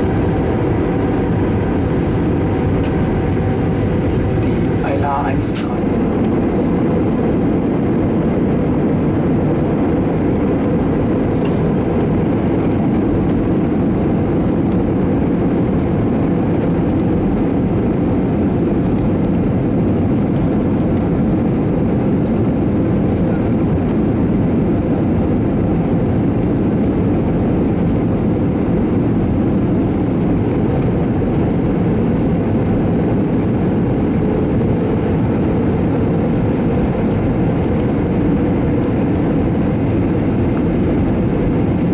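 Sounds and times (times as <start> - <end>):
airplane cabin engine drone: 0.0 - 41.9.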